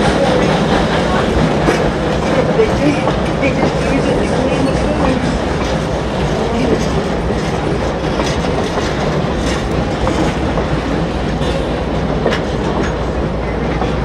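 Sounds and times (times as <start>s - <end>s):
rail clicks and clanks: 0.0s - 14.0s
train wheels rumbling on rails: 0.0s - 14.0s.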